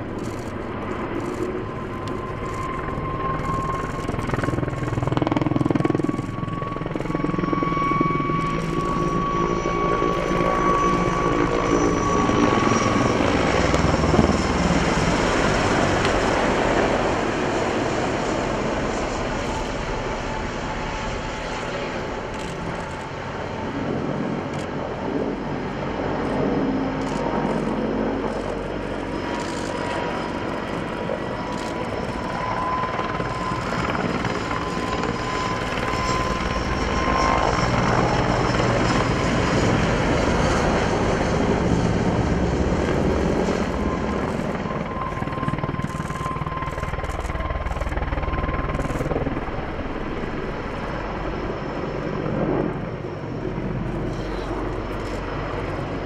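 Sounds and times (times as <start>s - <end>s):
helicopter flying: 0.0s - 56.0s
turbine whine: 0.0s - 56.0s.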